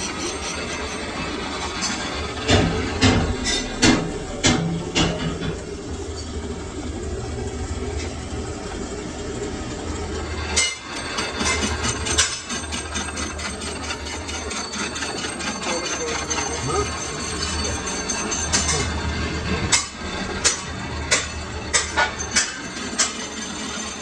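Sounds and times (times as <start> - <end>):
lathe humming: 0.0 - 24.0.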